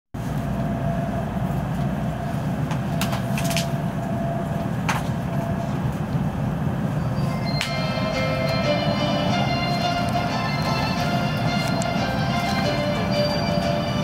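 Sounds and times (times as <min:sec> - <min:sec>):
train cabin rumble: 0:00.2 - 0:14.0.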